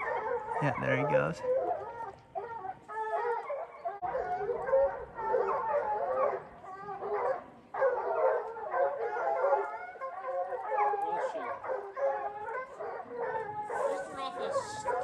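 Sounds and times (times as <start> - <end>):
hounds baying and howling: 0.0 - 15.0.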